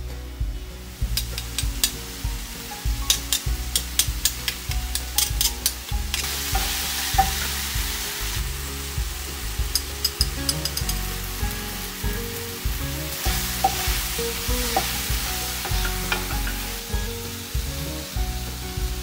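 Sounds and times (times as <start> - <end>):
mushrooms sizzling in a pan: 0.3 - 19.0.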